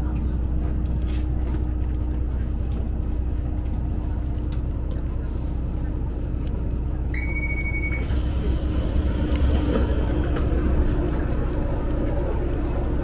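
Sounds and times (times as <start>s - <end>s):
low engine hum: 0.0s - 13.0s
wheel-on-rail running noise: 0.0s - 13.0s.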